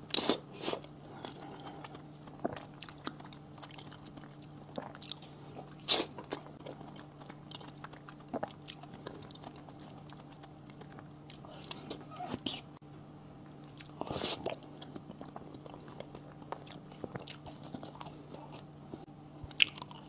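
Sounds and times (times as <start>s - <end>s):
faint low hum: 0.0s - 20.0s
wet chewing and crunching: 0.1s - 12.7s, 13.6s - 20.0s.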